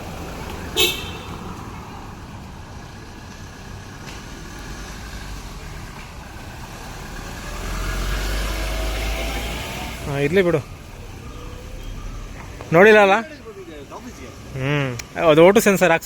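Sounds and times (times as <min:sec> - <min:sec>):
hum of passing vehicles: 0:00.0 - 0:16.0.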